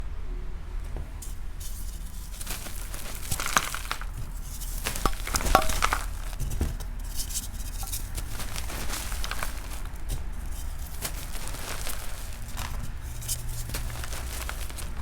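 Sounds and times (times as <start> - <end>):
chalk crumbling and crackling: 0.9 - 15.0.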